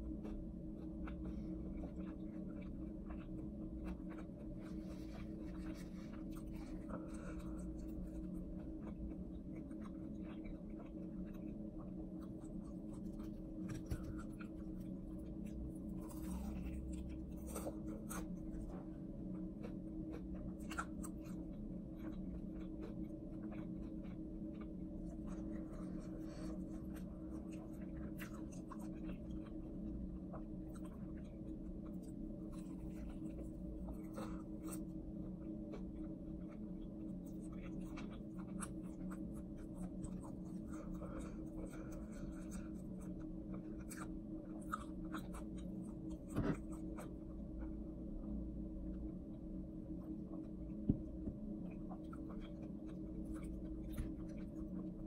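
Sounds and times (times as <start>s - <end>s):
crunching and chewing food: 0.0s - 55.0s
steady low hum: 0.0s - 55.0s.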